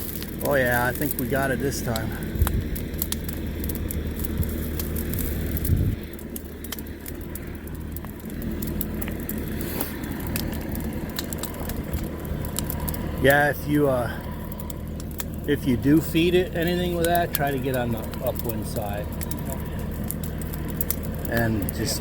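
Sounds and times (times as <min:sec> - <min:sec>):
fire crackling and popping: 0:00.0 - 0:22.0
low engine hum: 0:00.0 - 0:22.0.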